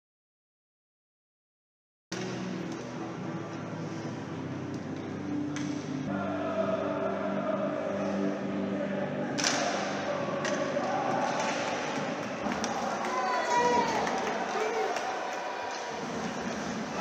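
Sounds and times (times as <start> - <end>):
crowd noise: 2.2 - 17.0.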